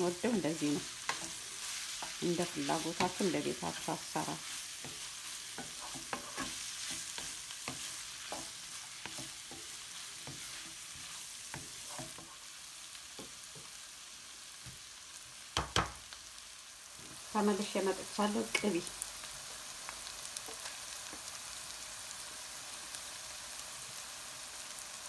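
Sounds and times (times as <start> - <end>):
meat sizzling in a pan: 0.0 - 25.0.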